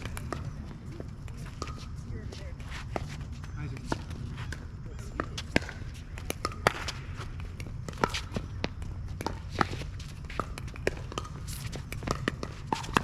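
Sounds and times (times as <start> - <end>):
ball bouncing: 0.0 - 13.0
players' footsteps: 0.0 - 13.0.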